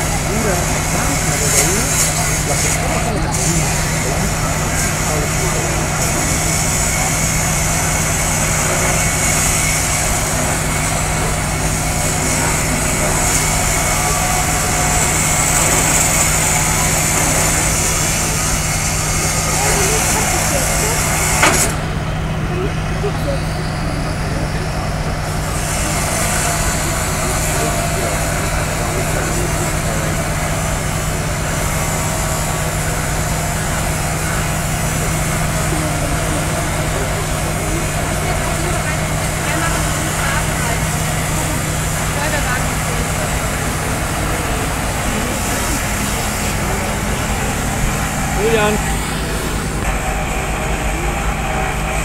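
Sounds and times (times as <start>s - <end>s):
crew voices: 0.0s - 52.0s
heavy vehicle engines idling: 0.0s - 52.0s.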